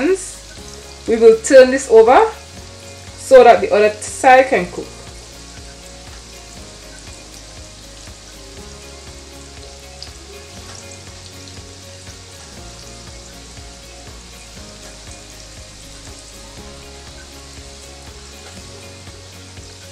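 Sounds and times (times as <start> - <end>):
fritters sizzling in oil: 0.0 - 19.9.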